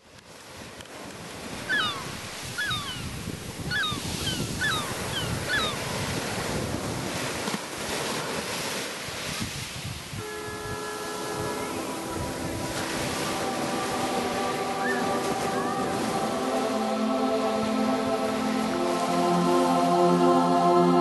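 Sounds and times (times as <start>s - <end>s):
surf washing on sandy beach: 0.0s - 21.0s.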